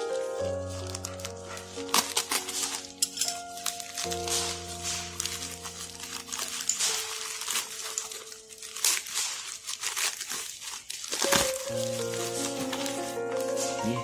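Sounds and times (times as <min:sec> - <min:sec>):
plastic mailer tearing and crinkling: 0:00.0 - 0:14.0.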